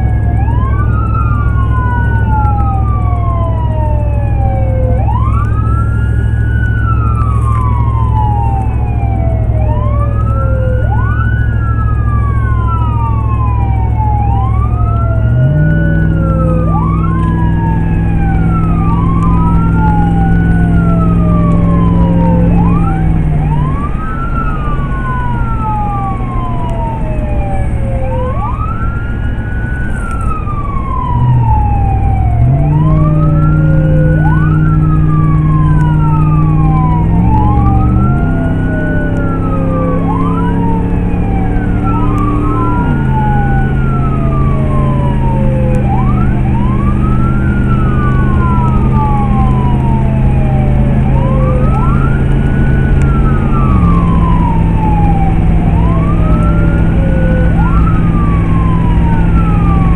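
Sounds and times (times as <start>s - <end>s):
emergency siren wailing: 0.0s - 59.9s
vehicle engine revving: 0.0s - 59.9s.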